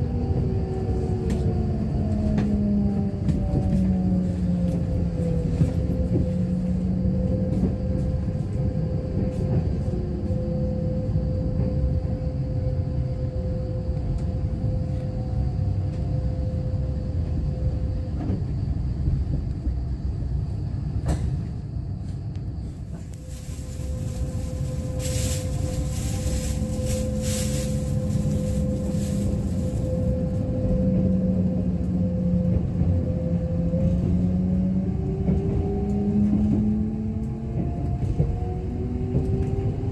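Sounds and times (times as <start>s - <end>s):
electric train whine: 0.0s - 39.9s
train wheels rumbling on rail: 0.0s - 39.9s.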